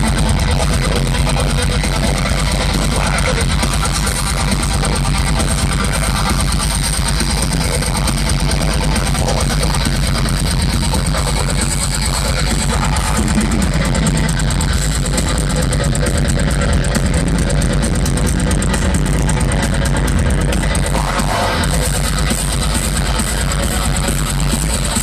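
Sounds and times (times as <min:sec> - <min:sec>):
distorted guitars: 0:00.0 - 0:25.0
drums: 0:00.0 - 0:25.0
heavy bass: 0:00.0 - 0:25.0.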